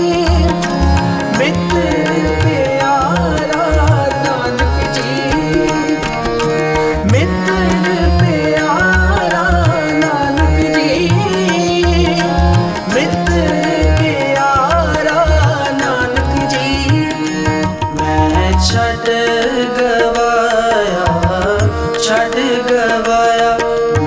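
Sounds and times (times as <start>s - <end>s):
ornamented melody line: 0.0s - 24.0s.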